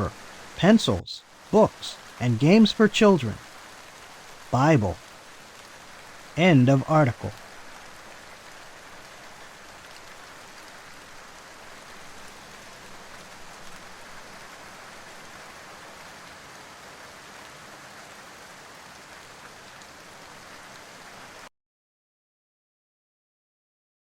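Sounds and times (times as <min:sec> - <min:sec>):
steady rain falling: 0:00.0 - 0:21.5.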